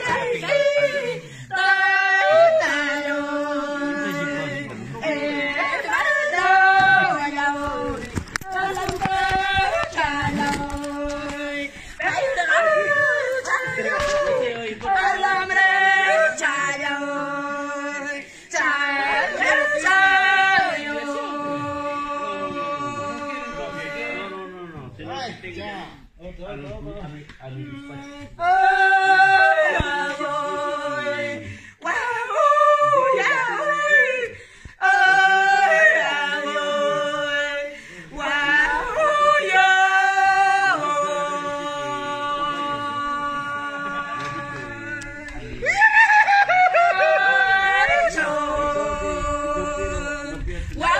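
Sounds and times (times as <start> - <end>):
women singing unaccompanied: 0.0 - 24.6, 27.6 - 50.9.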